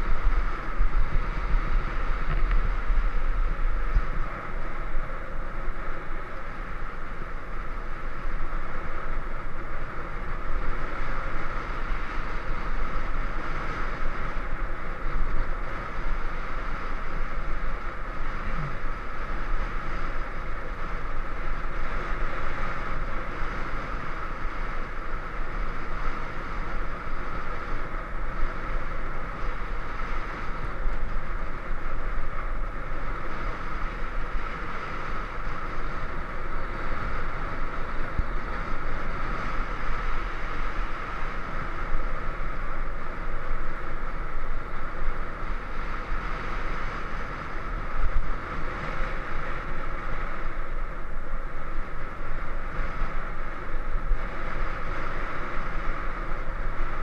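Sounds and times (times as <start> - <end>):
road noise: 0.0 - 57.0
wind rush on microphone: 0.0 - 57.0.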